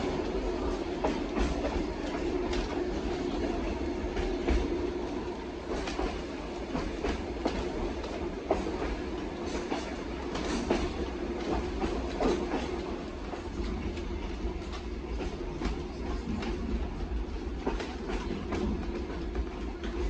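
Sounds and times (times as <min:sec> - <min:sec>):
train carriage rumbling: 0:00.0 - 0:20.0
wheels clicking over rail joints: 0:00.0 - 0:20.0.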